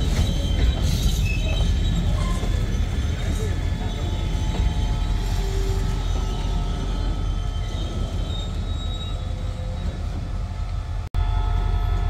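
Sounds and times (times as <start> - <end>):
wheel squeals: 0.0 - 10.3
freight train rumbling: 0.0 - 12.0.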